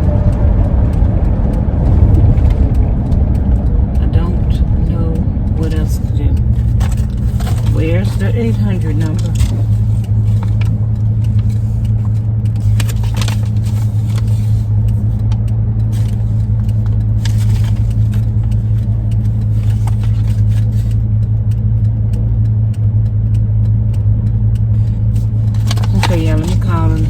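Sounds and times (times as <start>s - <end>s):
van engine drone inside cabin: 0.0s - 27.0s.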